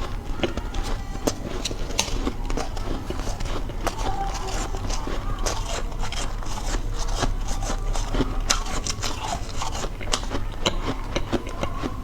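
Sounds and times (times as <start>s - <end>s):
ice being chewed: 0.0s - 12.0s.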